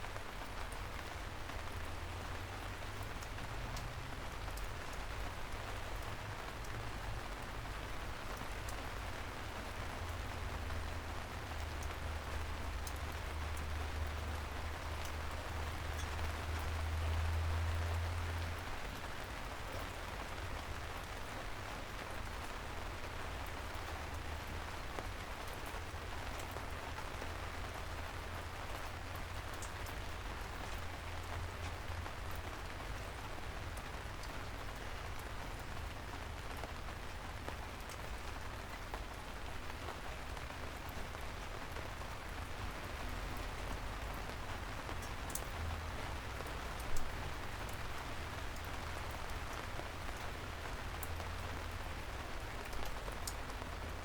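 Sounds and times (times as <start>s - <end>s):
raindrops ticking: 0.0s - 54.0s
soft rain falling: 0.0s - 54.0s.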